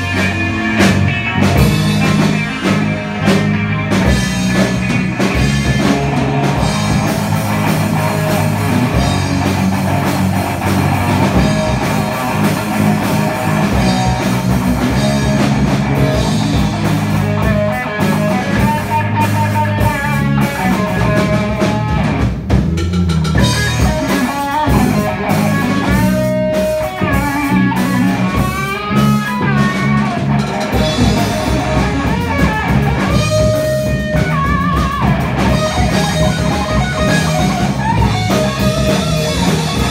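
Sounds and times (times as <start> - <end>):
lead guitar with bent notes: 0.0 - 22.5, 23.3 - 39.9
rock band playing: 0.0 - 39.9.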